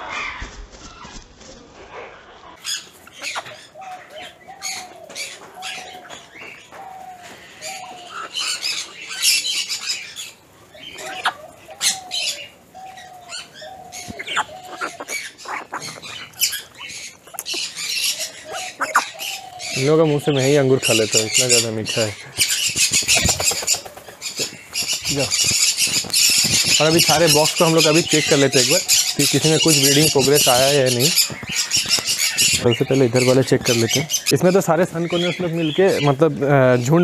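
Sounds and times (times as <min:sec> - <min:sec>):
wings flapping: 0:00.0 - 0:02.0, 0:02.6 - 0:34.3
parrots chirping and squawking: 0:01.9 - 0:37.0.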